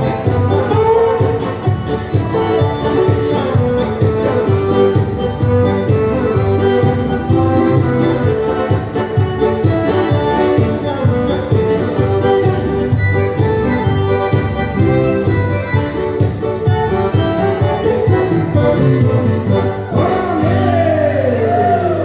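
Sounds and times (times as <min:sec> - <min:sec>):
accordion dance music: 0:00.0 - 0:22.0.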